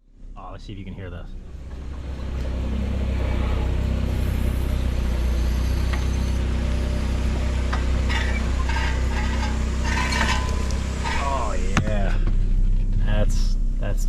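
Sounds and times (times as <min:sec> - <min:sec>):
car running gear rumbling: 0:00.0 - 0:14.0.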